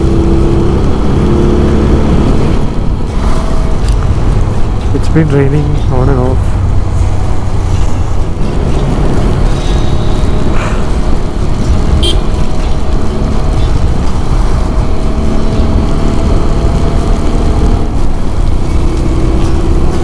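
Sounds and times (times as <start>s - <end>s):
motorcycle engine running: 0.0s - 20.0s
wind rushing on microphone: 0.0s - 20.0s.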